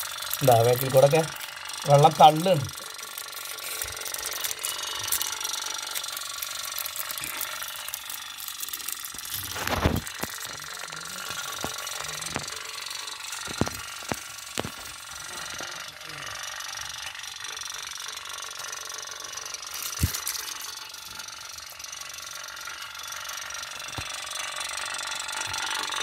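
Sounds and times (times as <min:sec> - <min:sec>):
toy steam boat rattling tick: 0:00.0 - 0:26.0.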